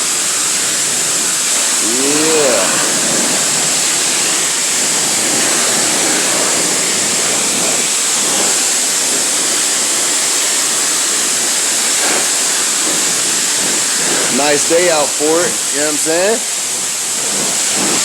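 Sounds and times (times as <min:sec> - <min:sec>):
high-pressure water spray hissing: 0:00.0 - 0:18.0.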